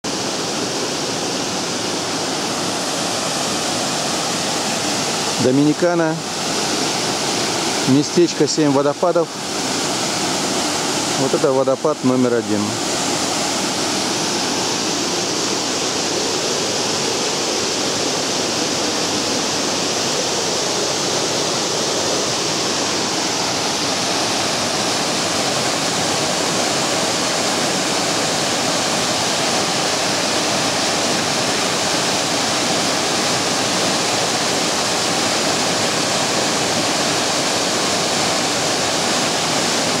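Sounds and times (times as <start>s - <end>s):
small waterfall splashing: 0.1s - 40.0s.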